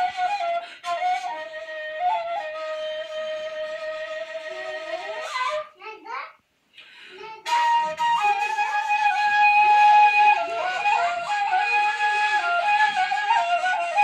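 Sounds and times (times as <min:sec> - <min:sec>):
end-blown flute folk melody: 0:00.0 - 0:05.6, 0:07.4 - 0:14.0.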